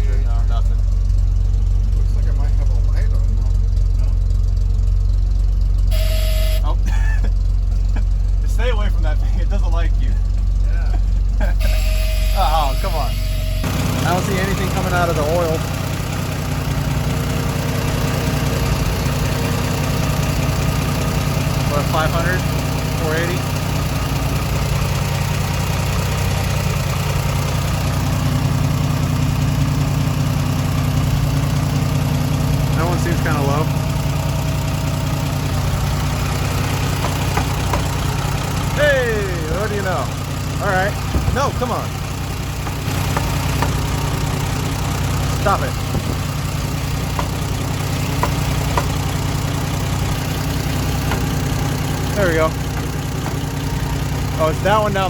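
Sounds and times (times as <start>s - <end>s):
fire truck engine idling: 0.0s - 55.0s.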